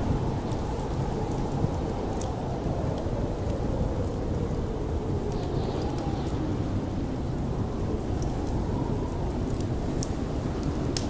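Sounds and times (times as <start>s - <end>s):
rumbling storm wind: 0.0s - 11.0s
wood fire crackling: 0.0s - 11.0s.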